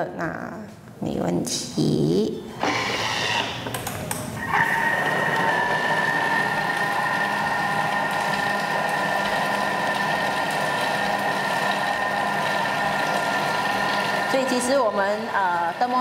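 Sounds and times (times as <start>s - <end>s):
food processor motor whine: 2.5s - 16.0s.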